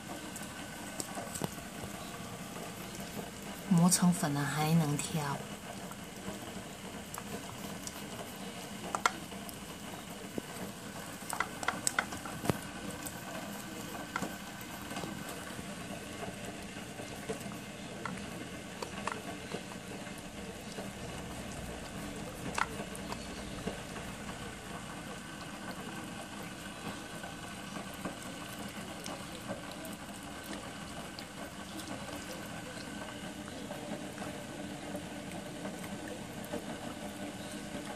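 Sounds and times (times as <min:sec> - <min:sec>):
dog chewing and licking: 0:05.6 - 0:37.9.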